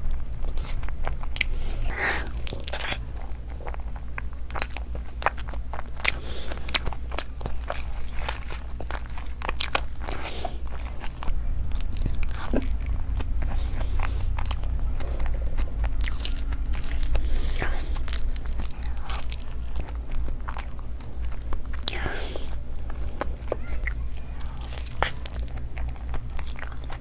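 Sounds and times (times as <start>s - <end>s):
crunchy bites and chewing: 0.0s - 27.0s
steady low hum: 0.0s - 27.0s.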